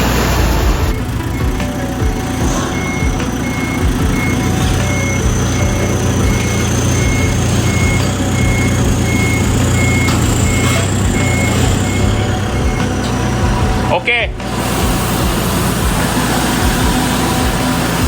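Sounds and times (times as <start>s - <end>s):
diesel engine idling: 0.0s - 18.0s
truck reversing beeper: 0.0s - 18.0s.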